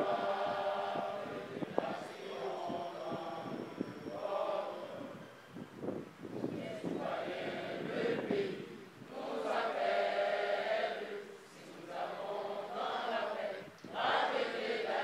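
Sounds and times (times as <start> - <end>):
group singing in unison: 0.0 - 5.3, 6.5 - 15.0.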